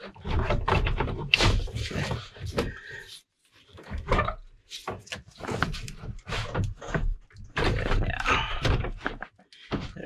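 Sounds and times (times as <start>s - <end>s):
plastic and metal knocks and rattles: 0.0s - 2.8s, 3.8s - 10.0s.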